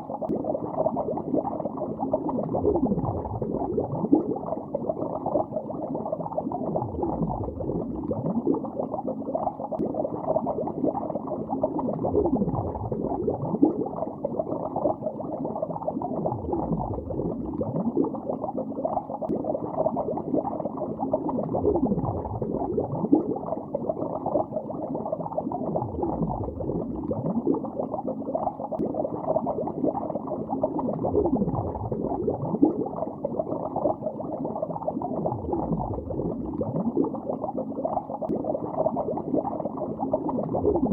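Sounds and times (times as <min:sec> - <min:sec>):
underwater bubbling: 0:00.0 - 0:40.9.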